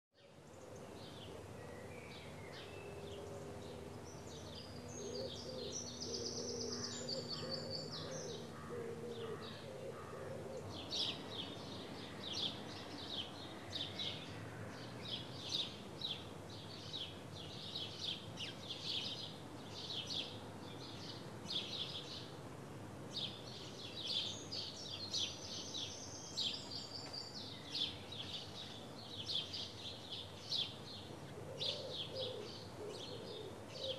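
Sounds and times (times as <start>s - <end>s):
birdsong: 0.2s - 22.5s, 23.1s - 33.9s
soft background hiss: 0.2s - 33.9s.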